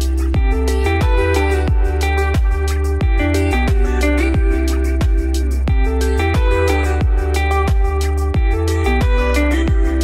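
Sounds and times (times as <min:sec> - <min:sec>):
electronic music with bass: 0:00.0 - 0:10.0.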